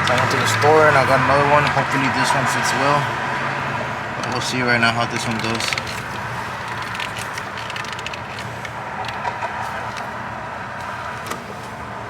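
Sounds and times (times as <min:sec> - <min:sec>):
outdoor background hiss and rumble: 0:00.0 - 0:12.0.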